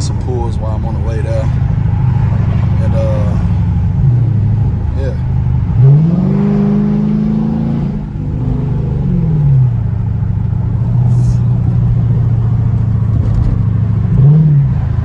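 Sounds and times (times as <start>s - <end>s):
car exhaust roaring: 0.0s - 15.0s.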